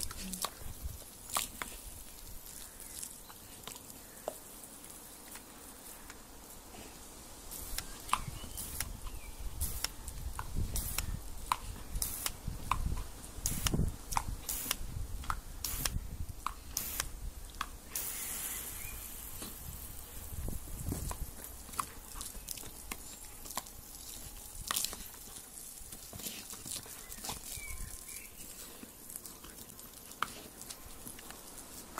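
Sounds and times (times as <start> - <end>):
steady hiss: 0.0 - 31.9
water spraying on grass: 0.0 - 31.9.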